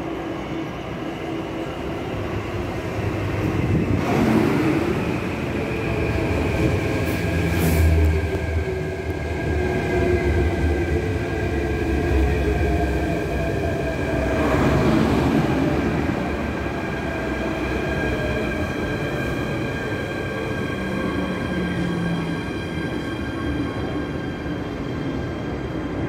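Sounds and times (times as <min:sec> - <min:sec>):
high train whines: 0:00.0 - 0:26.0
train wheels rumbling on rails: 0:01.6 - 0:26.0.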